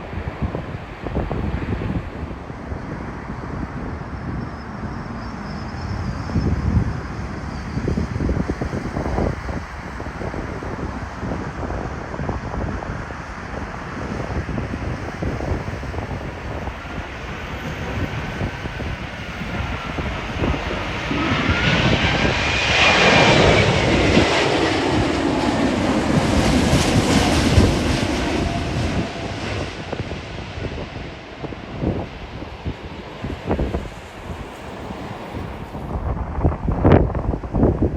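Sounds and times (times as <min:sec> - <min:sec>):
jet airliner passing: 0:00.0 - 0:37.9
wind buffeting microphone: 0:00.0 - 0:37.9.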